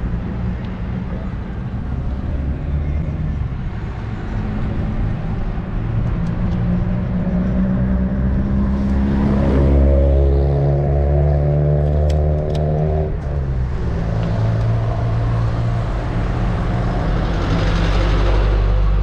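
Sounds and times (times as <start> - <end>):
road noise rumble: 0.0 - 19.0
vehicle engine hum: 0.0 - 19.0.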